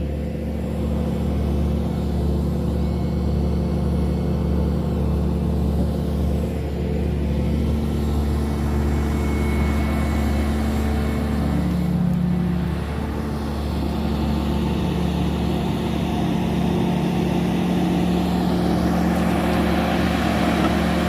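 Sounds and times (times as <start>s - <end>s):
excavator engine humming: 0.0s - 21.0s.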